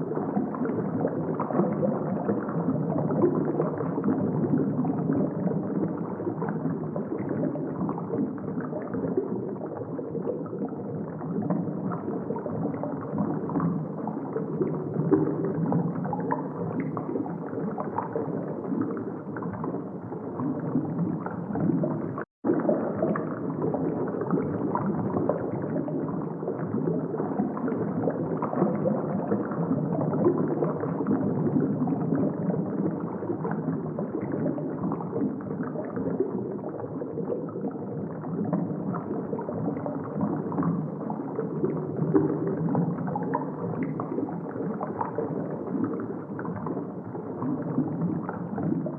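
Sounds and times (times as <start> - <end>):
water gurgling: 0.0 - 48.9.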